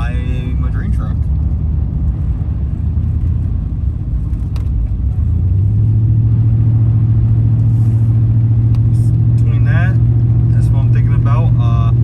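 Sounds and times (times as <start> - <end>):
pickup engine rumble: 0.0 - 12.0.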